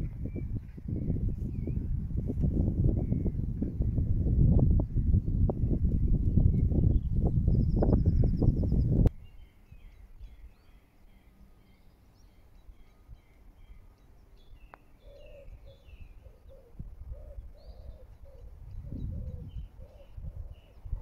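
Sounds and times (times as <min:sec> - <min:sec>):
faint wind rumble: 0:00.0 - 0:21.0
songbirds chirping: 0:00.0 - 0:21.0.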